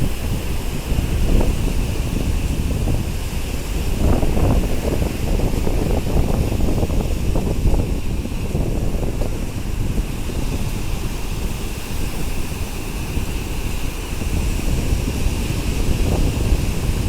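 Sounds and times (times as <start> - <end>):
surf hissing on beach: 0.0 - 17.0
wind buffeting microphone: 0.0 - 17.0.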